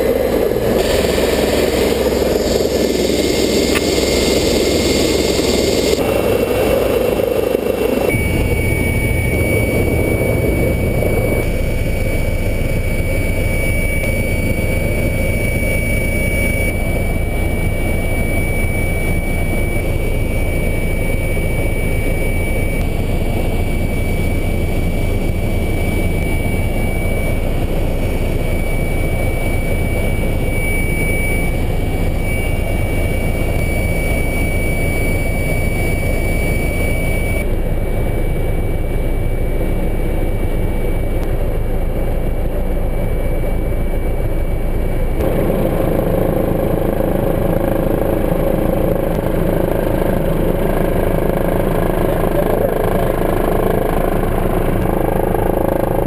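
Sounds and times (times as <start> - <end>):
helicopter turbine and rotor: 0.0 - 56.0.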